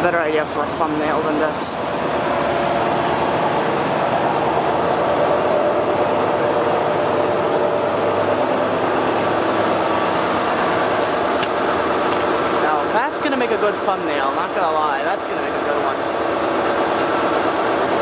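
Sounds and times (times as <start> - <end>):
locomotive engine idling: 0.0 - 18.0.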